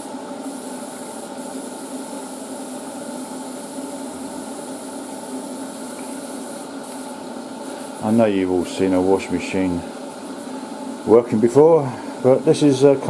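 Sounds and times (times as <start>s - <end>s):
hiss: 0.0s - 13.0s
washing machine humming: 0.0s - 13.0s.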